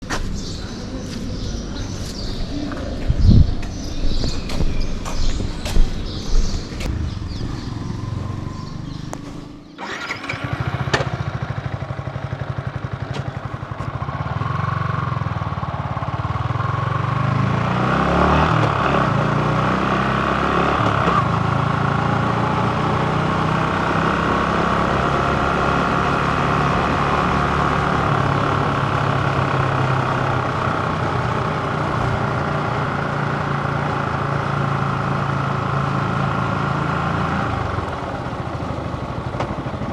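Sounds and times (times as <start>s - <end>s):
motorcycle engine running: 0.1s - 39.9s.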